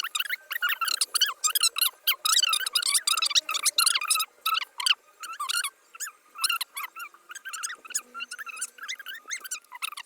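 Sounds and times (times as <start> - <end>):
small animal squeaking: 0.0 - 10.0.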